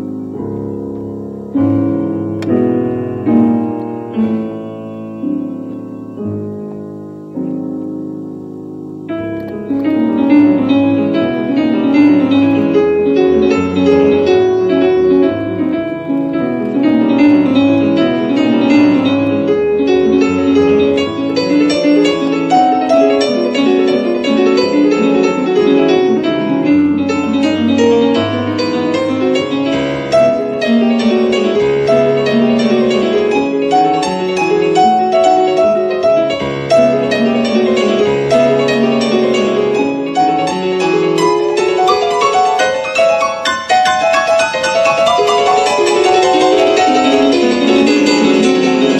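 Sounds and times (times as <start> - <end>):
piano playing: 0.0 - 48.9.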